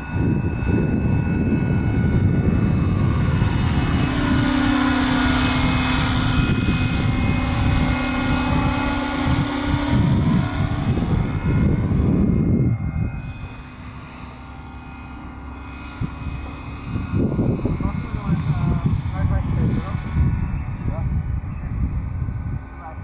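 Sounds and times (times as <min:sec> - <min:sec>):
helicopter rotor chopping: 0:00.0 - 0:23.0
high whine: 0:00.0 - 0:23.0
low hum: 0:00.0 - 0:23.0.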